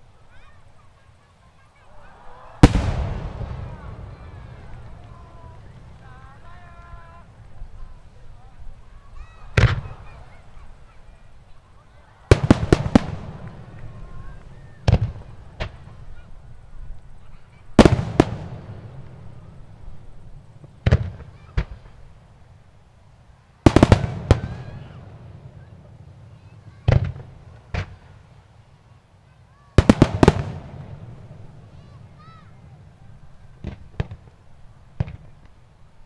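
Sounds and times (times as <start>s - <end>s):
fireworks bursting with booms: 0.0s - 22.8s, 23.6s - 29.0s, 29.7s - 36.0s.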